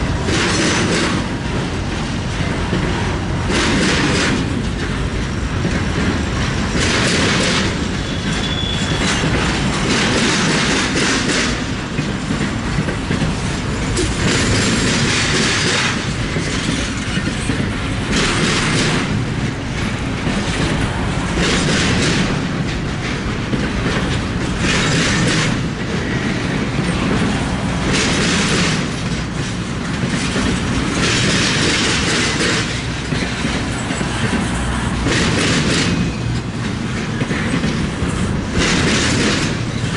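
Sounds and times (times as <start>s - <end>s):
freight train rolling past: 0.0s - 39.9s
wheel clatter over rail joints: 0.0s - 39.9s.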